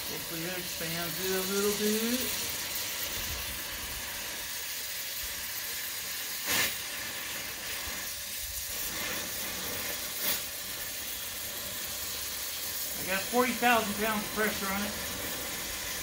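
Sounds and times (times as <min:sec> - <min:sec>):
gas torch flame hissing: 0:00.0 - 0:16.0.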